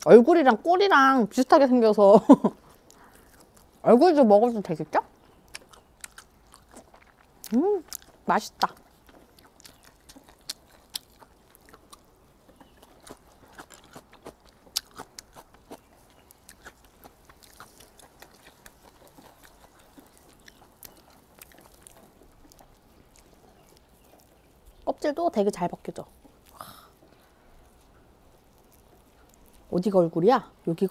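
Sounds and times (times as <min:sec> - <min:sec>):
chewing with soft crunches: 0:02.2 - 0:30.9.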